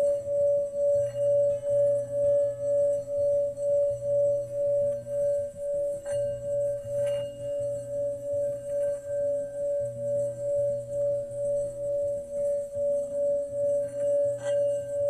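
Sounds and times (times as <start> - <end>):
singing bowl ringing: 0.0 - 15.0.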